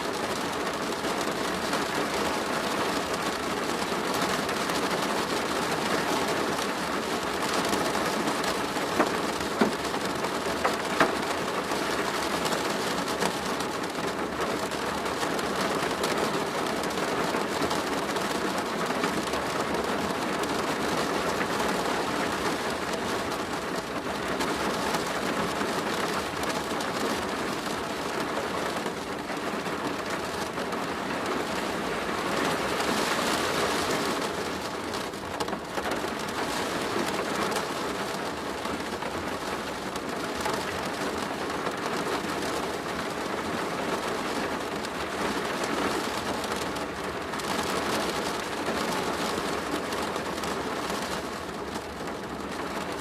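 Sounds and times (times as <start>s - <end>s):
rain on a plastic roof: 0.0s - 53.0s.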